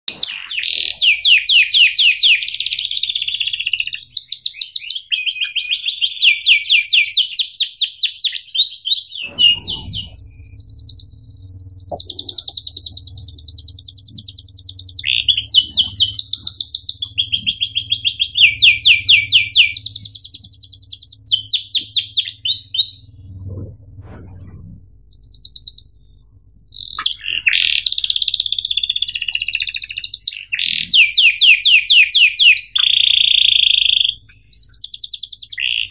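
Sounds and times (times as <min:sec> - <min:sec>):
canary singing trills: 0:00.1 - 0:35.9.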